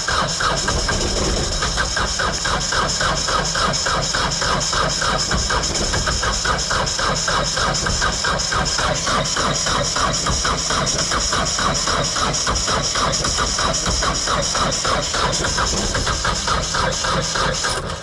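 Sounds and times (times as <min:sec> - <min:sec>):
starter motor cranking diesel engine: 0:00.0 - 0:18.0.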